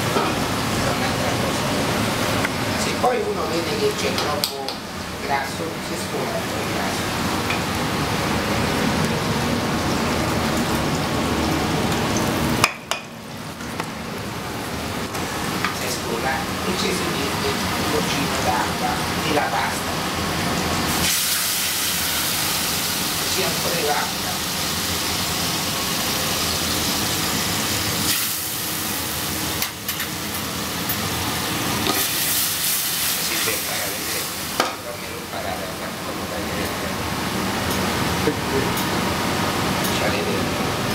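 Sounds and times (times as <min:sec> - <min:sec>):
fat sizzling in a frying pan: 0:00.0 - 0:40.0.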